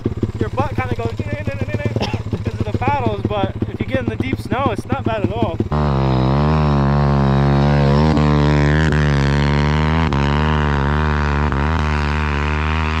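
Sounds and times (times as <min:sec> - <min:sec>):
motorcycle engine at steady throttle: 0:00.0 - 0:13.0.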